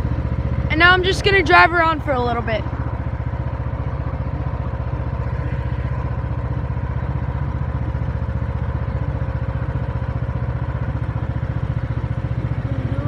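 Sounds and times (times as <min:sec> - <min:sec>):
riding lawnmower engine running: 0:00.0 - 0:13.0.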